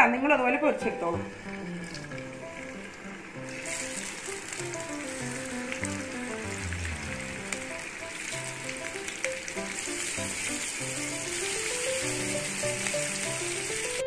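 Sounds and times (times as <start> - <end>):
soft piano music: 0.0 - 14.0
fish sizzling in hot oil: 0.6 - 14.0.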